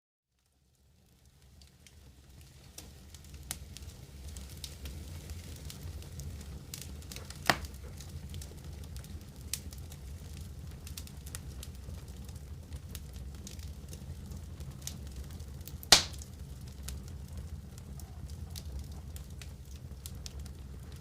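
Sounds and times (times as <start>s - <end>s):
wood fire crackling: 0.3s - 21.0s.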